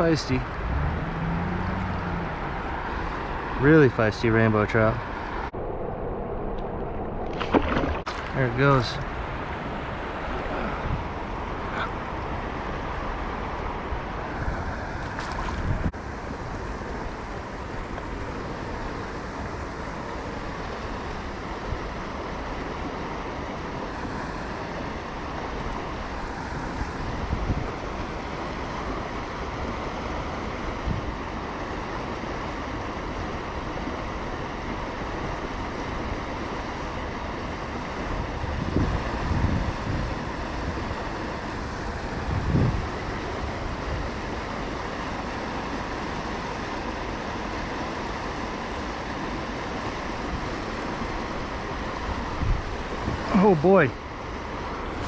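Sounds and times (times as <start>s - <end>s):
river water flowing: 0.0s - 5.7s, 6.5s - 55.0s.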